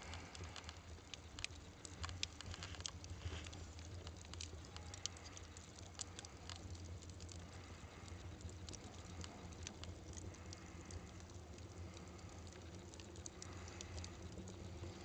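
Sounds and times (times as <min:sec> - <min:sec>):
firewood crackling and popping: 0:00.0 - 0:15.0
low fire rumble: 0:00.0 - 0:15.0.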